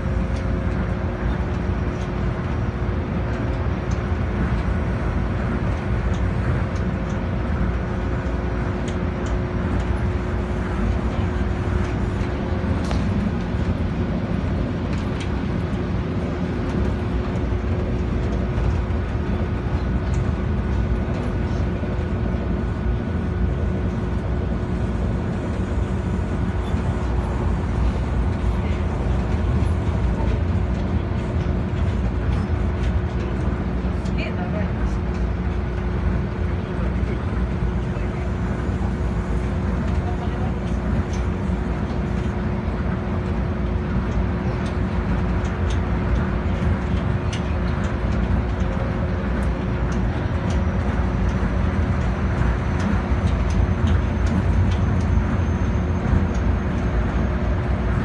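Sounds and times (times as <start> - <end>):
constant hum: 0.0 - 58.0
monorail car running noise: 0.0 - 58.0.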